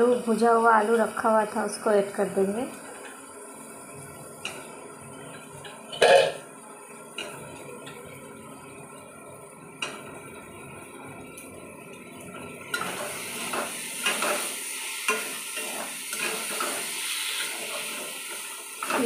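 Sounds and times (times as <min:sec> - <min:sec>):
food sizzling: 0:00.0 - 0:19.0.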